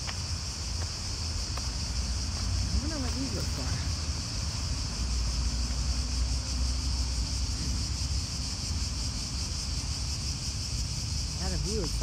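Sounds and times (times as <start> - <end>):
wind rumbling on microphone: 0.0 - 11.3
high-pitched insect chorus: 0.0 - 12.0.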